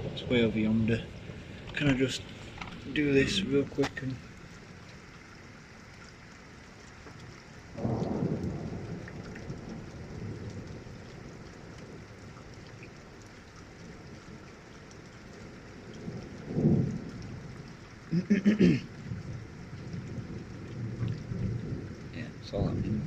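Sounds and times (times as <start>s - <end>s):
distant thunder rumbling: 0.0s - 4.8s, 7.6s - 23.0s
steady rain falling: 0.0s - 23.0s.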